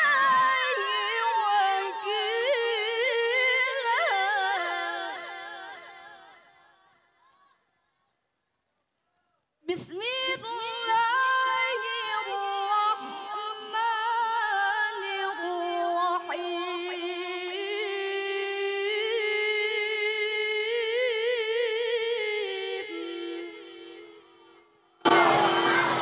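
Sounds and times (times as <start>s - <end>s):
woman reciting in song: 0.0s - 6.5s, 9.7s - 24.5s.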